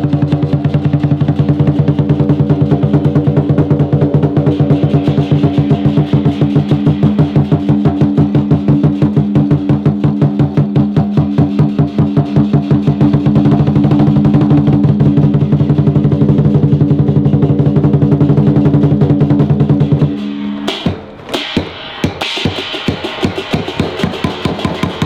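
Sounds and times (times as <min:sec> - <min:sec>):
music with fast drum beat: 0:00.0 - 0:25.0.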